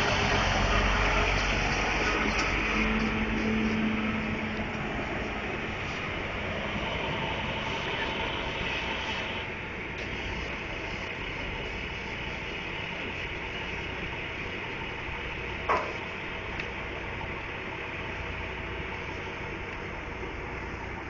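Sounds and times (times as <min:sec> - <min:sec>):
street traffic engines: 0:00.0 - 0:21.0.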